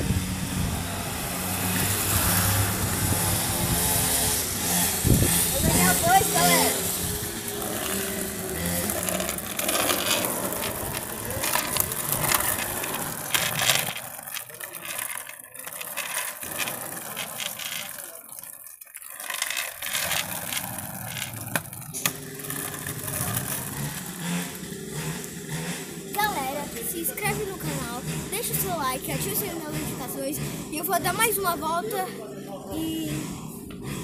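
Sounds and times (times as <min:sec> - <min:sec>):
skateboard wheels rolling on concrete: 0:00.0 - 0:34.0.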